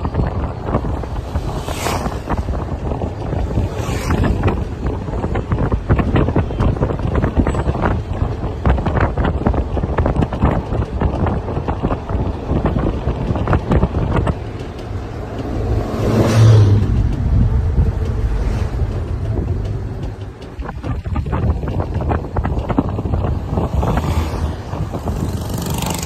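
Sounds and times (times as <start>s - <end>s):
bus road and engine noise: 0.0s - 26.0s
wind buffeting microphone: 0.0s - 26.0s.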